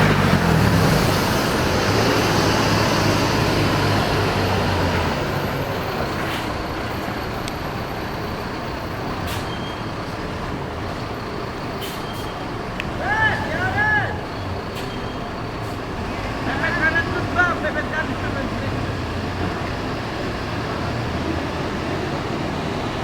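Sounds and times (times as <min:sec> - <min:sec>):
diesel bus engine humming: 0:00.0 - 0:23.0
traffic noise: 0:00.0 - 0:23.0.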